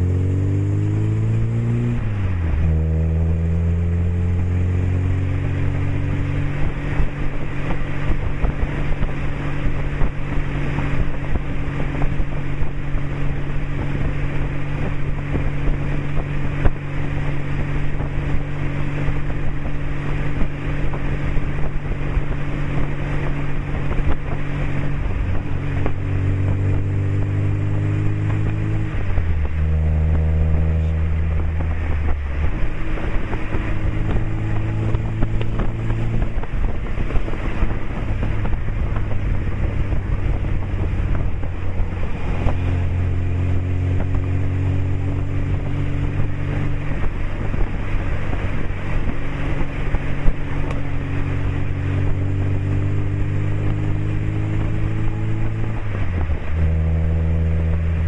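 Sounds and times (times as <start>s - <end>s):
car exhaust note while driving: 0.0s - 58.0s
wind rushing over microphone: 0.0s - 58.0s.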